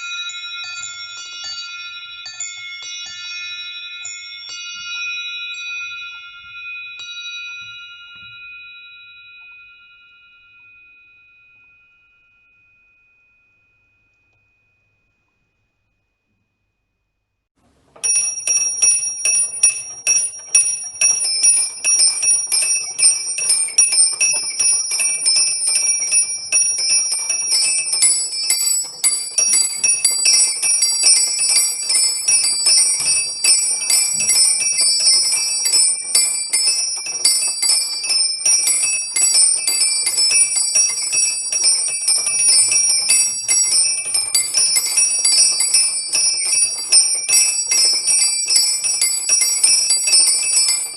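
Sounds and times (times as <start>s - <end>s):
small bells pealing fast: 0.0s - 11.0s, 18.0s - 50.9s.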